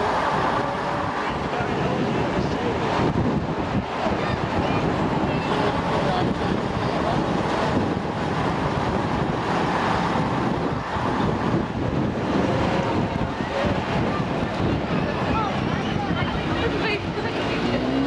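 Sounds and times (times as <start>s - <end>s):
crowd chatter: 0.0s - 18.0s
vehicle running: 0.0s - 18.0s
wind noise on microphone: 0.0s - 18.0s.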